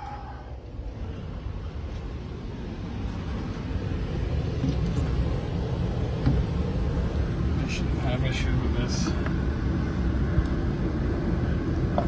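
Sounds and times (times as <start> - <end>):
air handler rumbling: 0.0 - 12.0.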